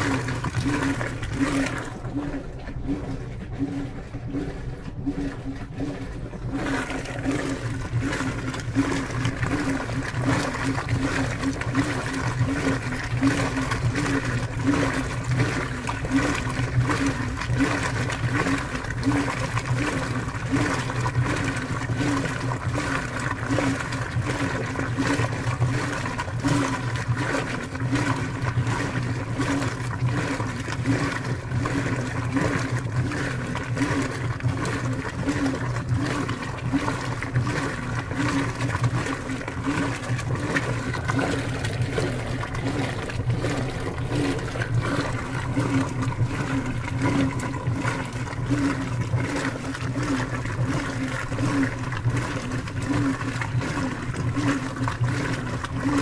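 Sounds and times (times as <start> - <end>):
washing machine motor hum: 0.0 - 56.0
water moving in drum: 0.0 - 56.0.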